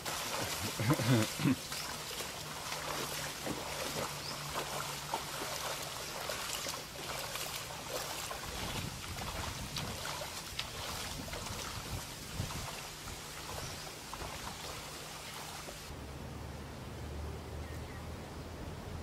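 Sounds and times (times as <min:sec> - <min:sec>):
small splashes and clicks: 0:00.0 - 0:15.9
floodwater flowing over ground: 0:00.0 - 0:16.0.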